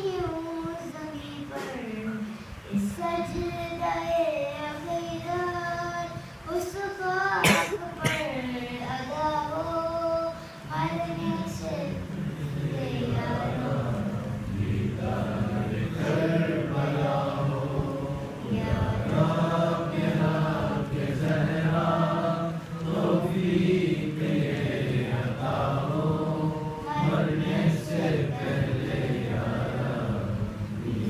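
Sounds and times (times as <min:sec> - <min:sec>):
boy chanting: 0:00.0 - 0:31.0.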